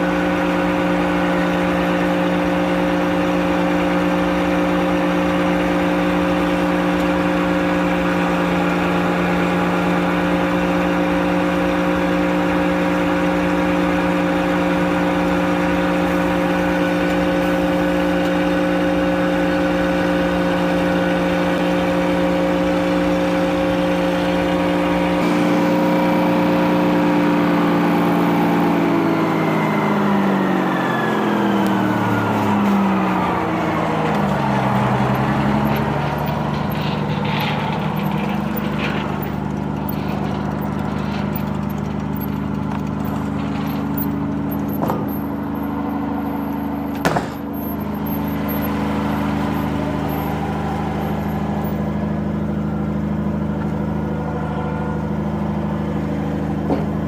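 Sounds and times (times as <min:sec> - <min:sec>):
sawmill humming: 0:00.0 - 0:57.0.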